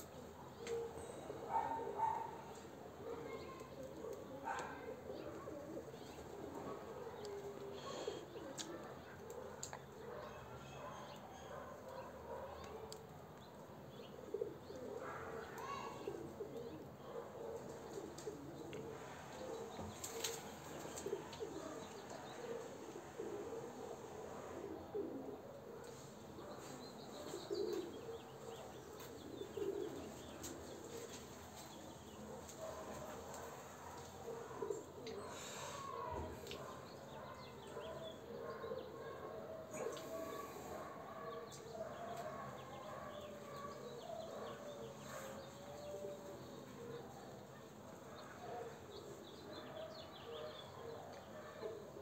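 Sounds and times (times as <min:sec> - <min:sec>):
pigeons cooing: 0:00.0 - 0:13.0, 0:13.8 - 0:52.0.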